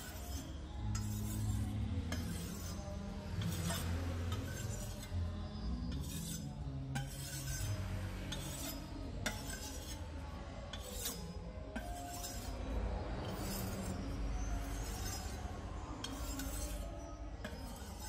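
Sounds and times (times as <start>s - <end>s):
knife blade scraping on gritty wood: 0.0s - 5.2s, 5.9s - 10.1s, 10.7s - 12.6s, 13.2s - 15.4s, 16.0s - 18.0s.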